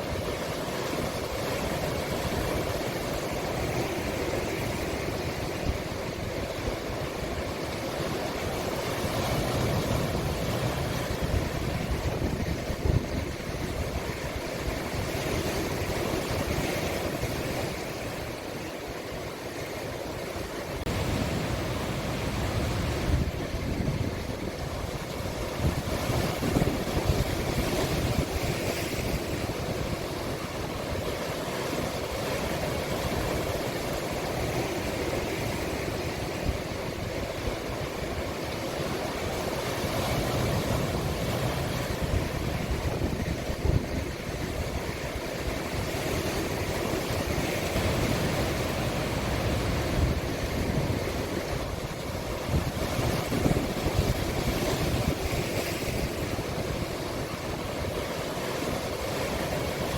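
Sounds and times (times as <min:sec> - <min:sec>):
sea waves breaking on shore: 0:00.0 - 0:59.9
wind buffeting microphone: 0:08.4 - 0:18.5, 0:20.3 - 0:59.9.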